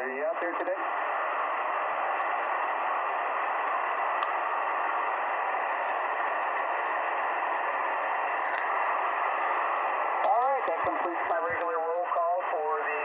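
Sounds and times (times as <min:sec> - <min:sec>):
shortwave receiver hiss: 0:00.0 - 0:13.0.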